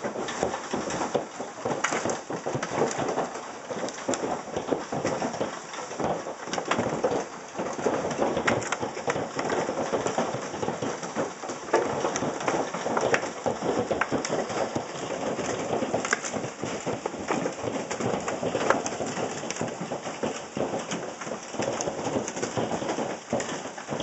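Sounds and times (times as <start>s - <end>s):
hailstones pelting down: 0.0s - 24.0s.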